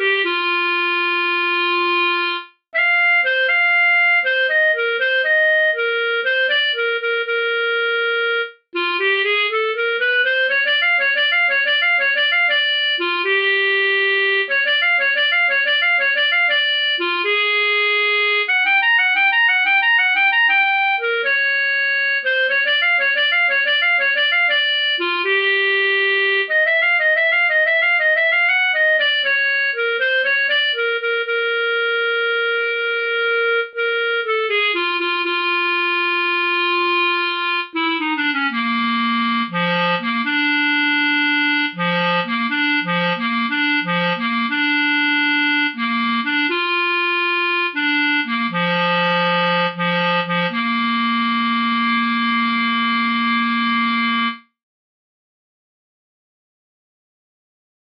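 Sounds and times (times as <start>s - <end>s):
solo clarinet boogie melody: 0.0s - 54.6s.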